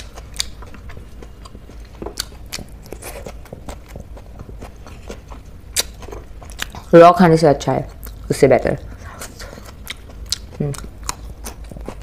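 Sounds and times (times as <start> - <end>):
eating with fingers and chewing: 0.0 - 12.0.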